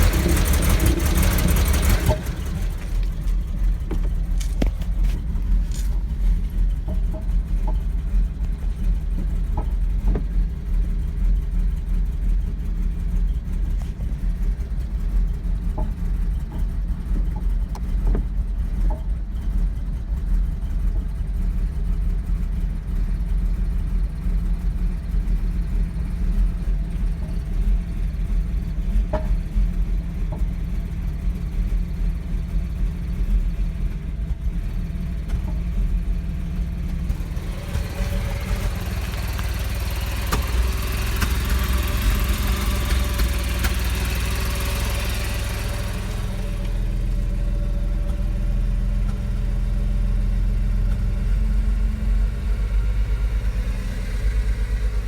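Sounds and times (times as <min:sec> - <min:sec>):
car engine idling roughly with knocking: 0:00.0 - 0:53.5.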